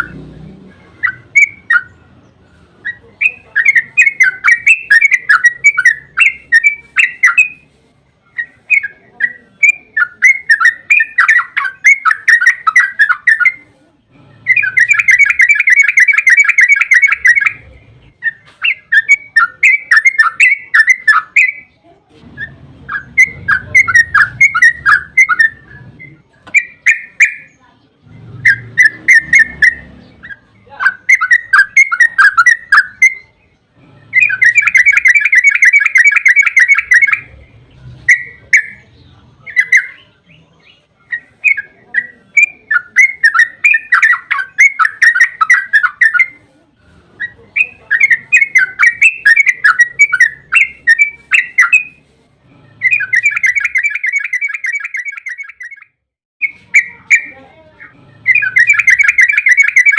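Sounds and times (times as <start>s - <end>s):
bird singing bubbling phrases: 0.8s - 7.6s, 8.3s - 21.8s, 22.4s - 46.4s, 52.8s - 59.9s.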